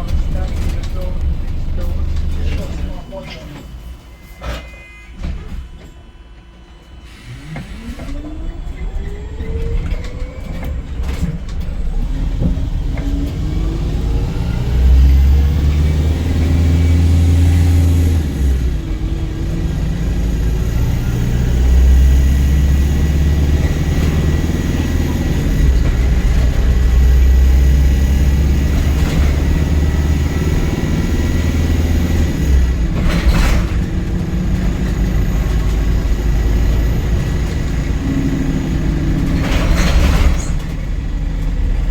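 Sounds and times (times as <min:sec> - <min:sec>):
bus diesel engine accelerating: 0:00.0 - 0:04.6, 0:05.2 - 0:41.9
road noise: 0:00.0 - 0:04.6, 0:07.1 - 0:41.9
bus whine rising in pitch: 0:00.0 - 0:41.9.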